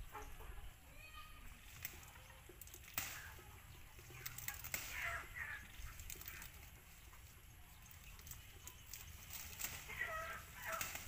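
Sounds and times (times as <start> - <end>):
leafy plants rustling: 1.4 - 11.0.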